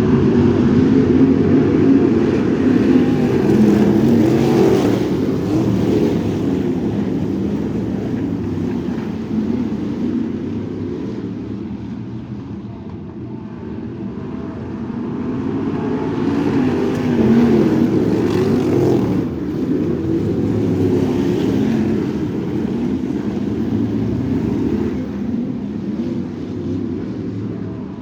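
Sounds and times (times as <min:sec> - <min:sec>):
racing car engine: 0:00.0 - 0:12.4, 0:14.6 - 0:28.0.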